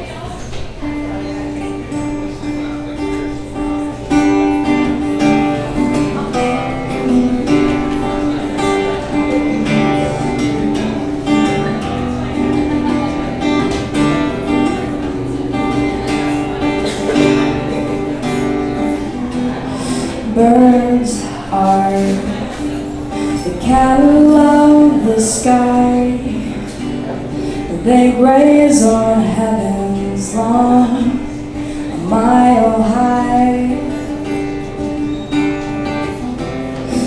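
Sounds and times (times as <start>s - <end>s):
acoustic guitar strumming chords: 0.0s - 37.0s.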